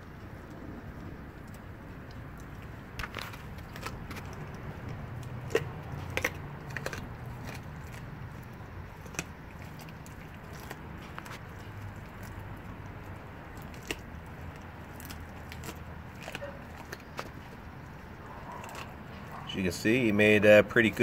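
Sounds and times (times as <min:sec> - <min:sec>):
low steady hum: 0:00.0 - 0:21.0
dog crunching frozen fish: 0:00.2 - 0:21.0.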